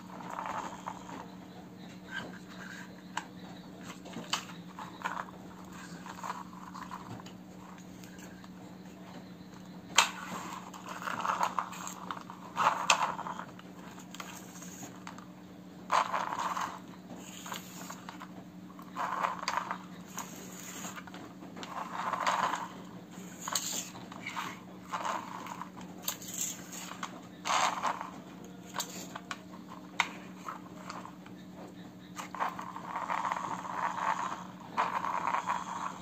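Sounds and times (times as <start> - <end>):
plastic toy scraping on floor: 0.0 - 1.4, 2.0 - 3.2, 3.8 - 8.5, 9.9 - 15.2, 15.9 - 31.4, 32.1 - 36.0
low steady hum: 0.0 - 36.0.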